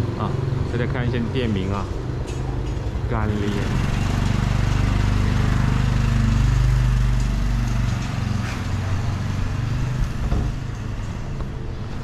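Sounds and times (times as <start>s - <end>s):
street traffic: 0.0s - 12.0s
vehicle engine humming: 0.0s - 12.0s.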